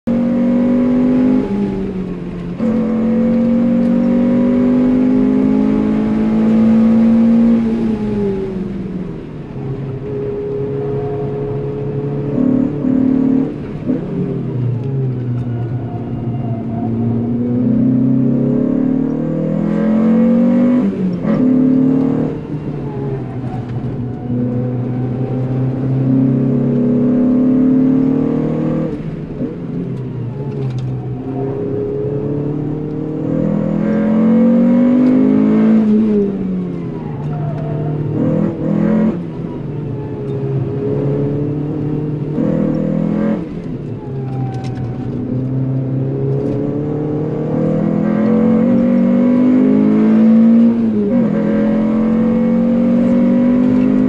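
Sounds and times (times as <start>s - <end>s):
car engine revving through gears: 0.0s - 54.0s.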